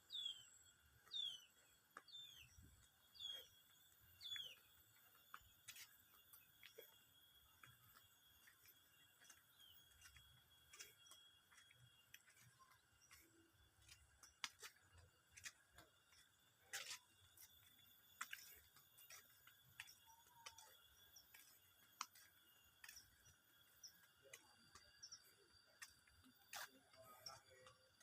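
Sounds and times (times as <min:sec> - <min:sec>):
soft clicks and ticks: 0:03.8 - 0:28.0.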